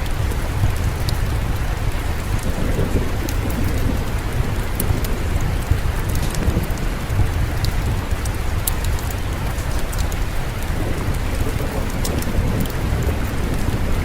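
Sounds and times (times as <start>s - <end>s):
distant thunder rumble: 0.0s - 14.0s
sharp little ticks: 0.0s - 14.0s
steady rain: 0.0s - 14.0s.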